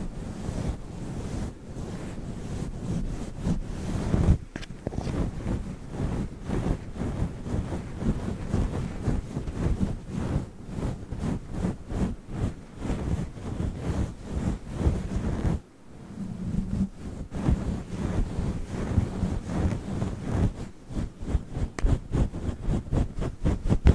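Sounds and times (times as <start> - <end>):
rubbing on fluffy microphone cover: 0.0 - 23.9.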